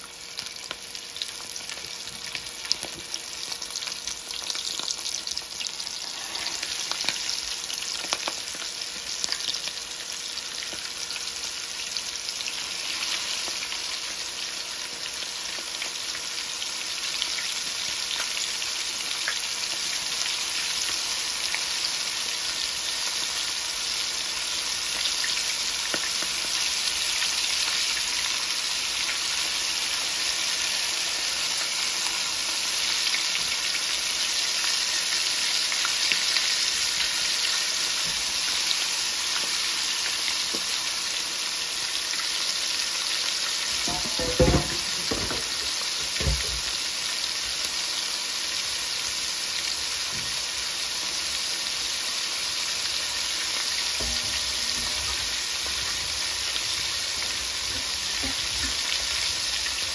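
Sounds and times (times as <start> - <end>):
chicken frying in hot oil: 0.0 - 59.9.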